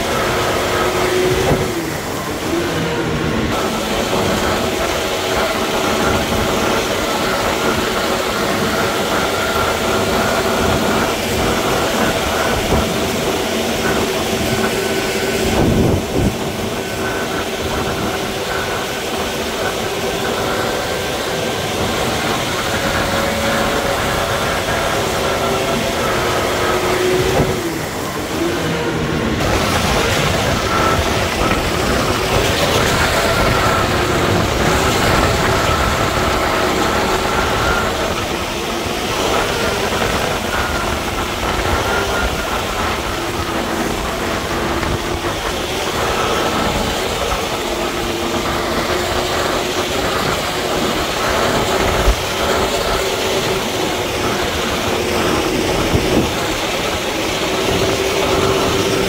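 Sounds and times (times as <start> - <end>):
gravel work: 0.0 - 59.0
heavy machinery diesel engine: 0.0 - 59.0.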